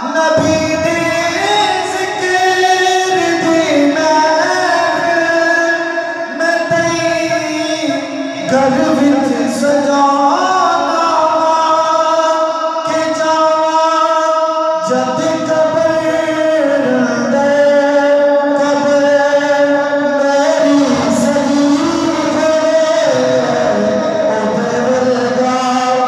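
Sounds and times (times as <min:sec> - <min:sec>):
man singing through sound system: 0:00.0 - 0:26.0.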